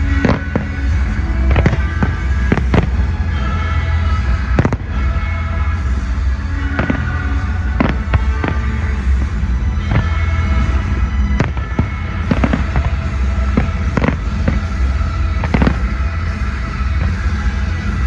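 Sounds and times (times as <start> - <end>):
fireworks bangs: 0.0 - 18.0
loud music with heavy bass: 0.0 - 18.0.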